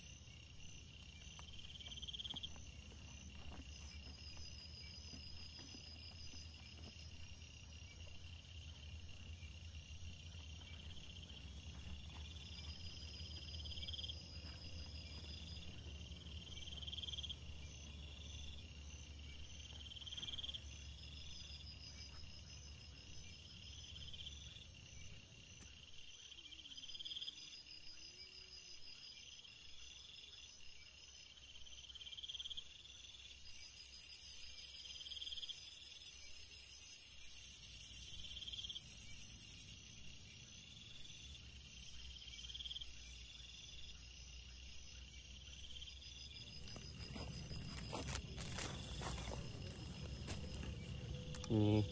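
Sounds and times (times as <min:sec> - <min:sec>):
crickets calling: 0:00.0 - 0:51.9
dense high insect buzz: 0:00.0 - 0:51.9
pulsed insect trills: 0:00.0 - 0:51.9.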